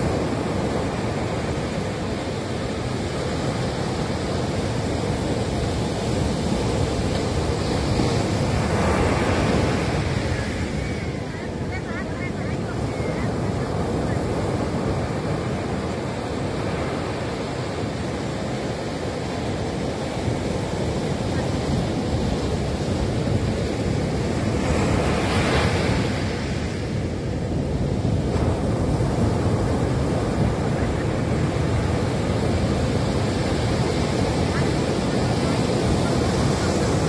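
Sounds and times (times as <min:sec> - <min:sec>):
ocean waves washing on beach: 0:00.0 - 0:37.0
wave crashing: 0:00.0 - 0:37.0.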